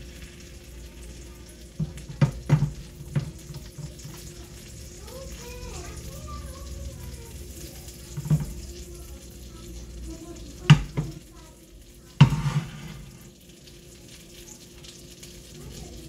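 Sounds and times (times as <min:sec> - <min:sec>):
bread sizzling in a pan: 0:00.0 - 0:16.0.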